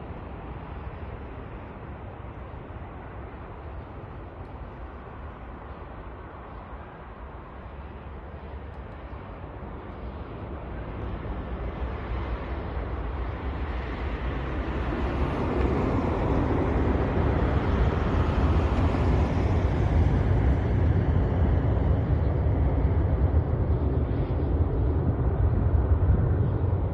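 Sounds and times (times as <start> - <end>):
jet engines rumbling: 0.0 - 26.9.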